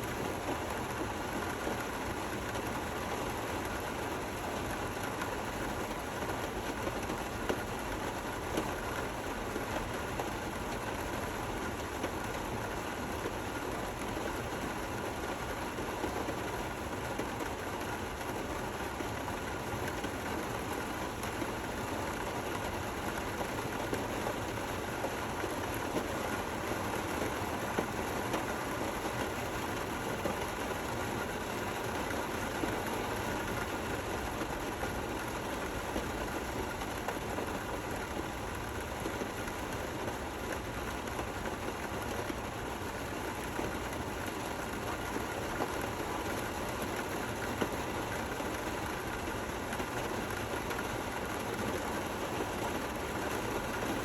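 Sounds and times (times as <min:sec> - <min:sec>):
steady rain hiss: 0:00.0 - 0:54.0
faint raindrop ticks: 0:00.1 - 0:54.0.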